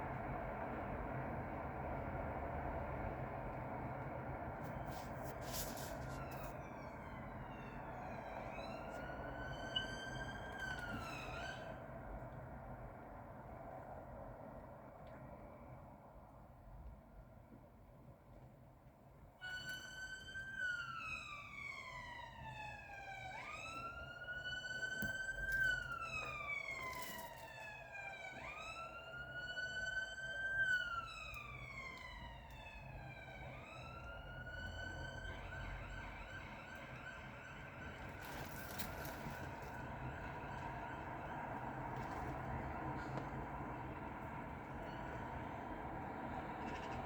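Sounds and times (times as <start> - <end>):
ambulance siren: 0.0 - 12.2, 19.4 - 47.0
traffic rumble: 0.0 - 47.0.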